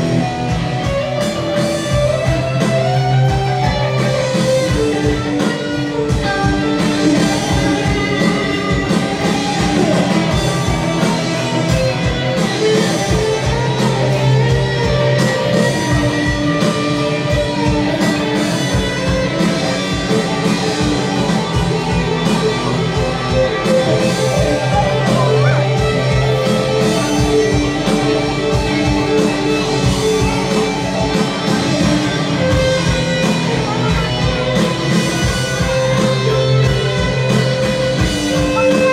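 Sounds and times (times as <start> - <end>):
electric guitar: 0.0 - 38.9
live rock band playing: 0.0 - 38.9.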